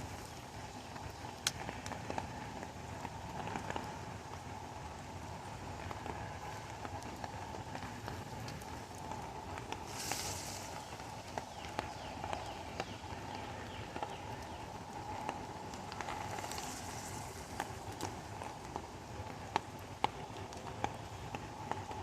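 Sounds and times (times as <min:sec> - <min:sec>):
raindrops tapping close by: 0:00.0 - 0:22.0
steady rain: 0:00.0 - 0:22.0.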